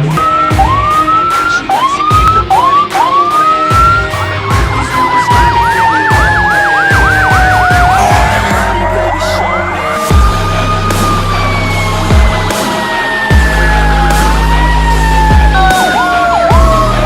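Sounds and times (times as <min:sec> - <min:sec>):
fast siren yelp: 0:00.0 - 0:17.0
siren rising whoops: 0:00.0 - 0:17.0
siren wail: 0:00.0 - 0:17.0.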